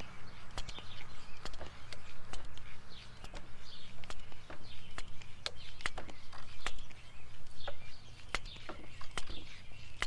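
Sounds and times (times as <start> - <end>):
birds chirping: 0.0 - 10.0
hand pump clicking: 0.0 - 10.0.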